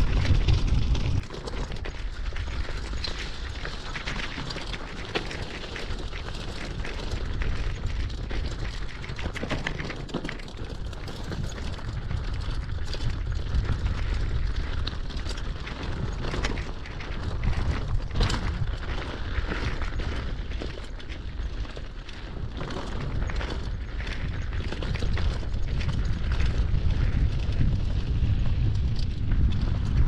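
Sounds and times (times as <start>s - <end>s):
wind buffeting microphone: 0.0s - 4.7s, 10.4s - 30.0s
bike rattling in sharp clicks: 0.0s - 30.0s
tyres rolling over stones: 0.0s - 30.0s.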